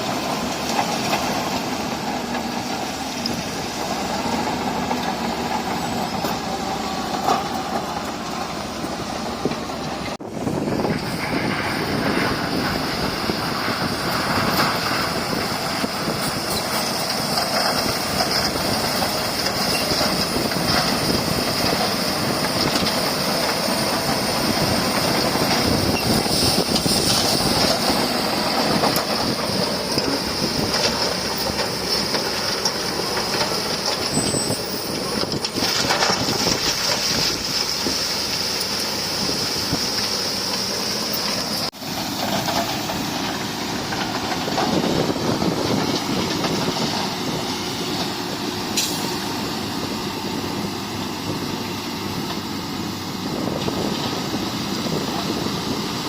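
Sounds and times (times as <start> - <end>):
bulldozer diesel engine running: 0.0 - 56.0
crawler tracks clanking and squealing: 0.0 - 56.0.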